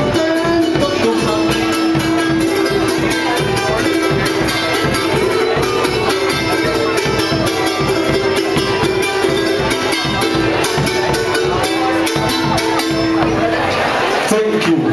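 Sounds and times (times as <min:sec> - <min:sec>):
charango strummed rapidly: 0:00.0 - 0:14.9
drum beating: 0:00.0 - 0:14.9.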